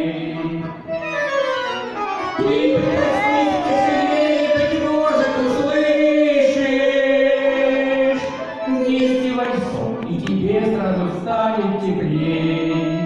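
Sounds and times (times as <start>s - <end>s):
man and woman singing: 0.0s - 0.8s, 2.4s - 13.0s
accordion: 0.0s - 13.0s.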